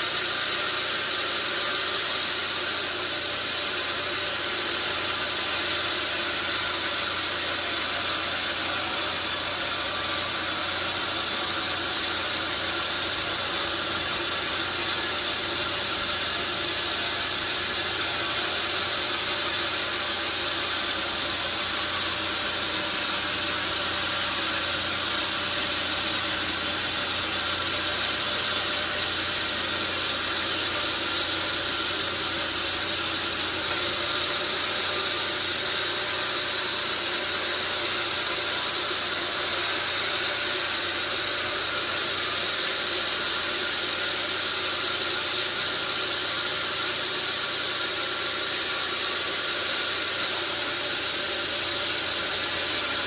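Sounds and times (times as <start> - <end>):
sawmill saw whining: 0.0 - 53.0.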